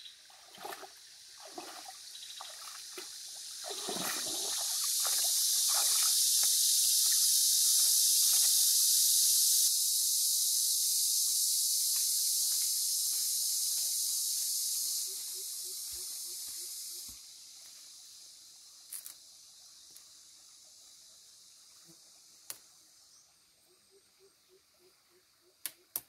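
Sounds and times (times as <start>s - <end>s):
high-pitched hiss: 2.0s - 24.3s.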